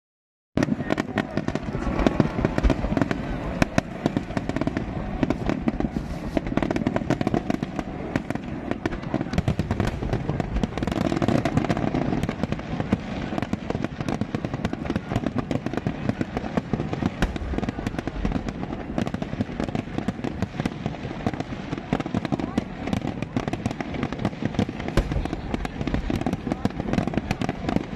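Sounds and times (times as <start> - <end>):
fireworks bangs and crackling pops: 0.6 - 27.9.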